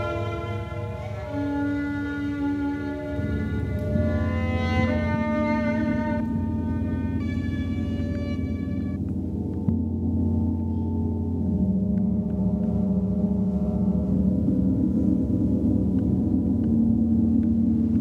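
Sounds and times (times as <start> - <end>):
large gongs rumbling: 0.0 - 18.0.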